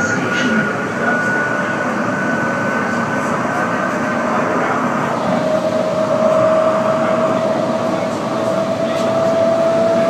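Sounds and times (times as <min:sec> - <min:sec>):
train wheels running on rails: 0:00.0 - 0:10.0.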